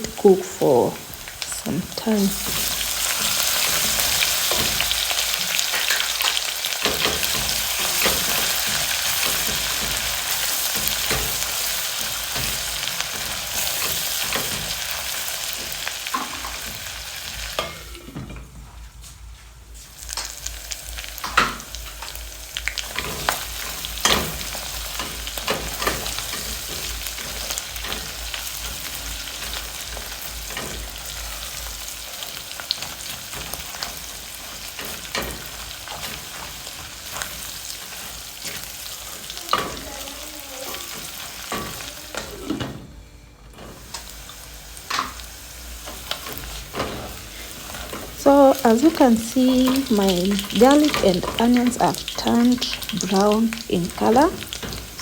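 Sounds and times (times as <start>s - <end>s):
onions sizzling in oil: 0.0s - 55.0s.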